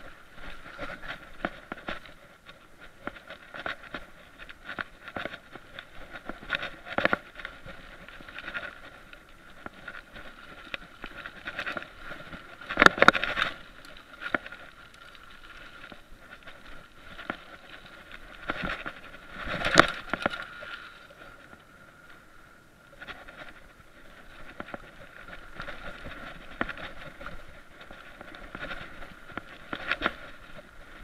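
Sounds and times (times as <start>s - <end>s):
bike rattling over dirt trail: 0.0s - 21.8s, 22.8s - 31.0s.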